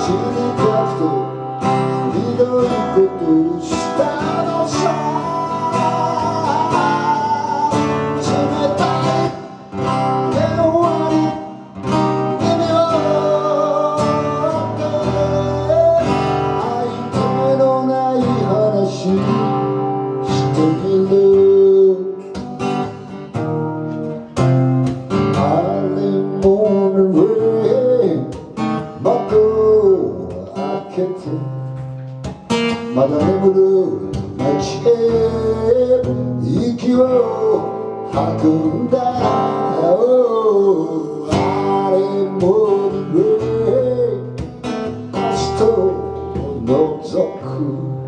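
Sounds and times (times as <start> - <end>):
person singing: 0.0 - 23.2, 25.2 - 31.9, 32.7 - 48.0
acoustic guitar strumming: 0.0 - 48.0.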